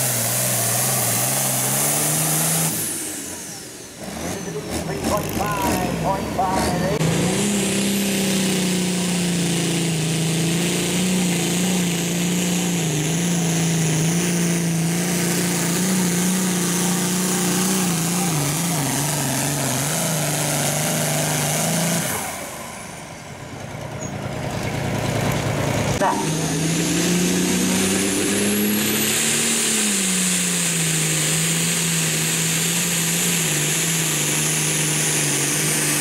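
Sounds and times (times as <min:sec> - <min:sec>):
tractor engine at full throttle: 0:00.0 - 0:36.0.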